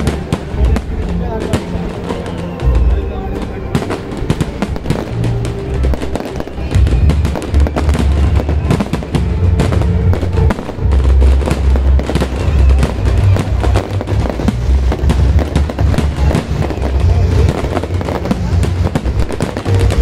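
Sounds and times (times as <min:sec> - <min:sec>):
fireworks crackling pops: 0:00.0 - 0:20.0
music playing: 0:00.0 - 0:20.0.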